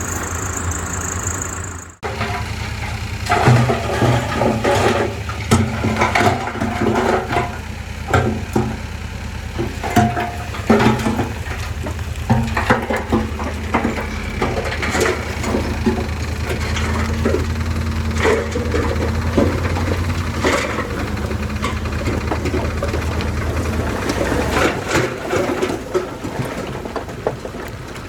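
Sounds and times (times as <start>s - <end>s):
diesel engine running: 0.0s - 28.0s
machinery clanks and knocks: 0.0s - 28.0s.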